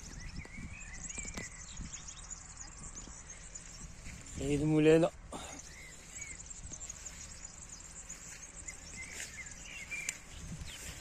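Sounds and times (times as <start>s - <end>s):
bird chirps: 0.0s - 11.0s
insects chirring: 0.0s - 11.0s.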